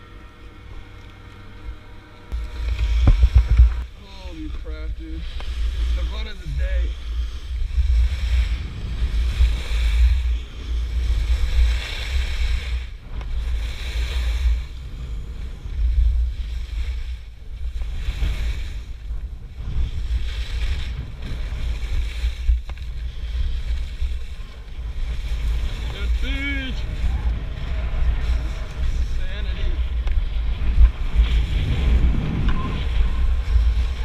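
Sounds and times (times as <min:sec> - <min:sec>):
wind buffeting microphone: 0:00.0 - 0:34.0
ski edges carving snow: 0:02.3 - 0:34.0.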